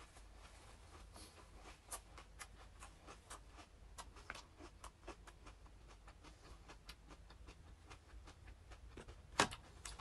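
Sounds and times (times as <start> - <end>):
chewing crisp lettuce: 0.0 - 10.0.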